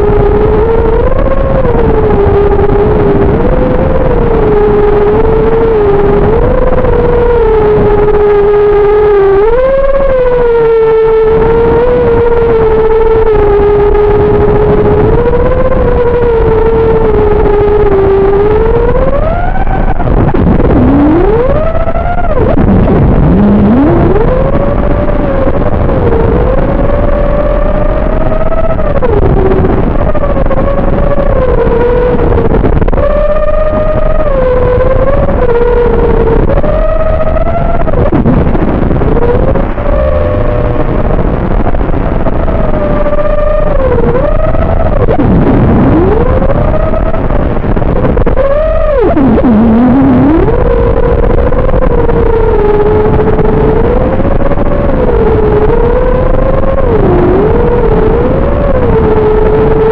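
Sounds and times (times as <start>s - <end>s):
quadcopter motors whining: 0.0s - 38.4s, 39.1s - 41.2s, 42.0s - 47.2s, 48.0s - 59.9s.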